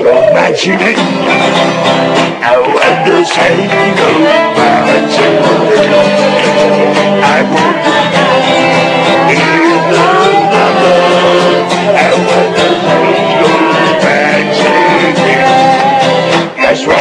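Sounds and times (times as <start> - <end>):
dance music on accordion and guitar: 0.0 - 17.0.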